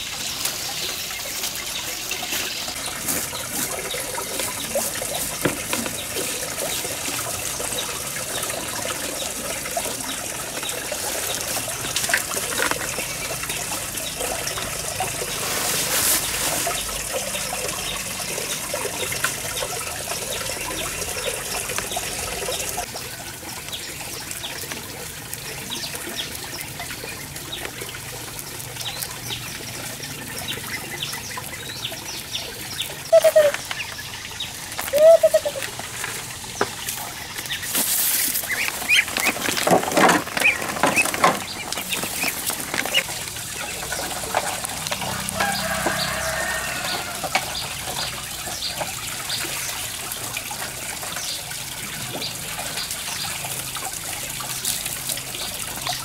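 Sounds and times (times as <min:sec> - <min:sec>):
rabbits chewing leaves: 0:00.0 - 0:56.0
trickling water-like hiss: 0:00.0 - 0:56.0.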